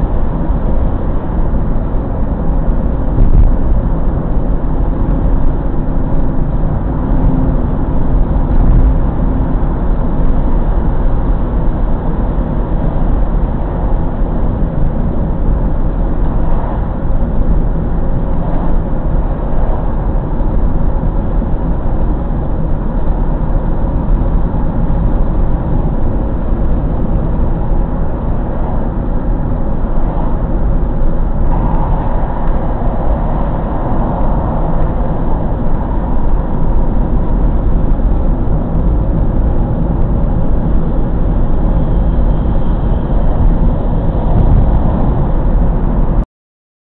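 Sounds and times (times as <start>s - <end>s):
engine and tyre rumble in car: 0.0s - 46.2s.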